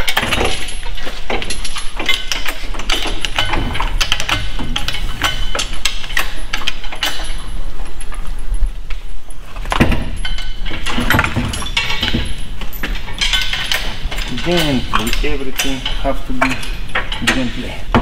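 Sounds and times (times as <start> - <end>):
lifting chain rattling: 0.0 - 18.0
metal clinks and knocks: 0.0 - 18.0.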